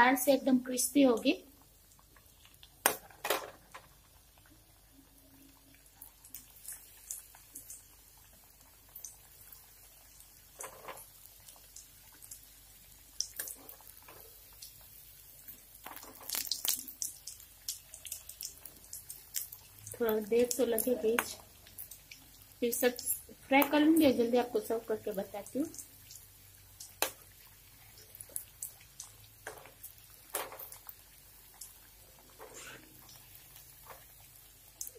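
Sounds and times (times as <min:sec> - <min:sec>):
hot oil crackling and popping: 0:00.0 - 0:34.9.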